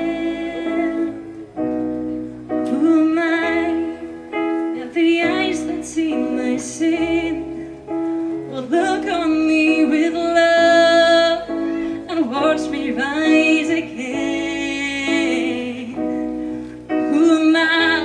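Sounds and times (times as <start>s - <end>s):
instrumental chords: 0.0s - 18.0s.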